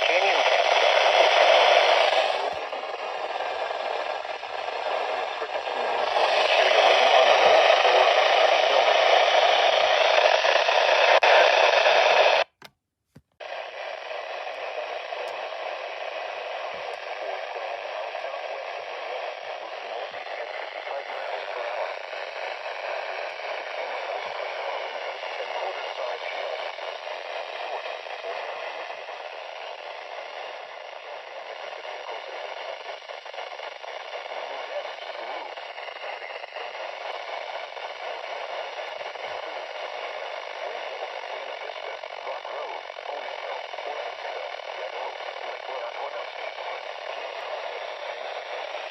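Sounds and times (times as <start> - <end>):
radio static hiss: 0.0 - 48.9.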